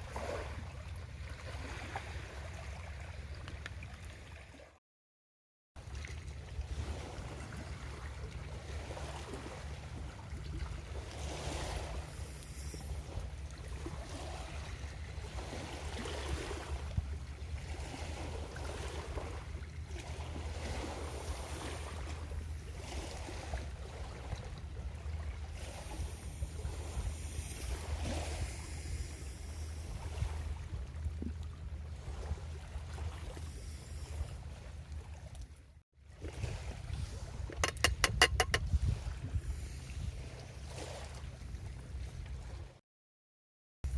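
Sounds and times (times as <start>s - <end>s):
small waves washing onto shore: 5.8s - 42.8s
wind rumble on microphone: 6.0s - 42.8s.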